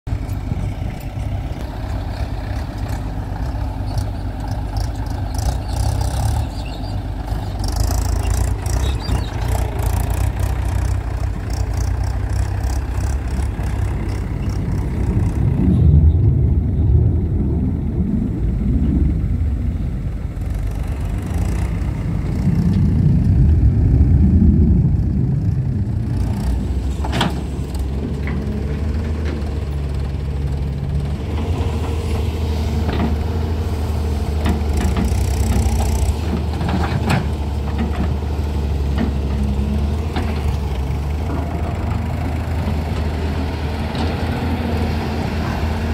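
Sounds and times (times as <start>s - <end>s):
tractor engine: 0.0s - 45.9s
excavator diesel engine: 0.1s - 45.9s.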